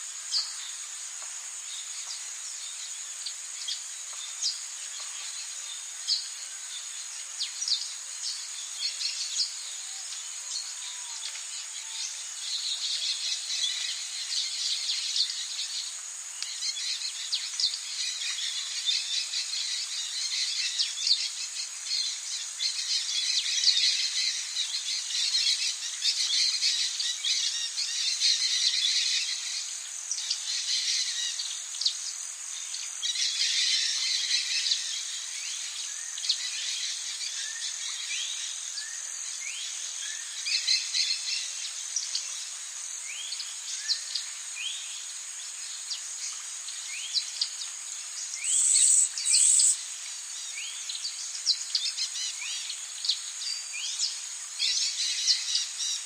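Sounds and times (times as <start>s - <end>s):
bird and insect chirps: 0.0s - 56.0s
high insect drone: 0.0s - 56.0s.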